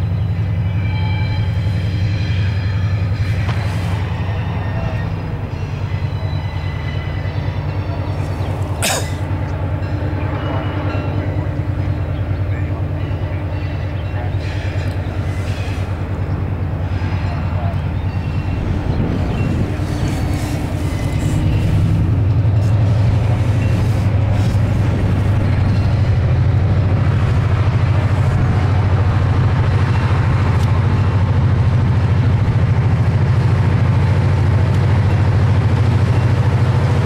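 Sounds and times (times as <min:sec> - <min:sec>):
diesel locomotive droning: 0:00.0 - 0:37.0.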